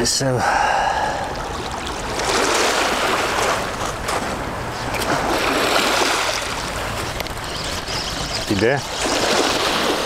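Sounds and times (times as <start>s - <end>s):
waves breaking on shore: 0.6s - 10.0s.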